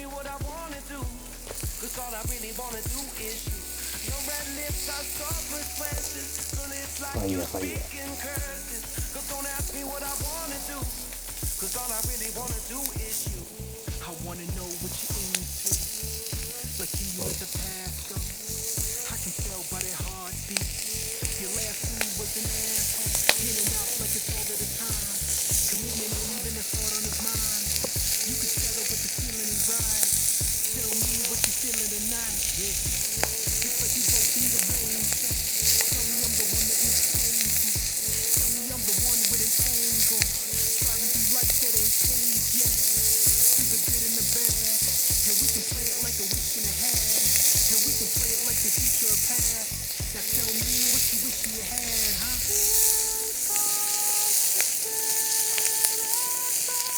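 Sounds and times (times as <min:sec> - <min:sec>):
chicken sizzling on a griddle: 0:00.0 - 0:56.9.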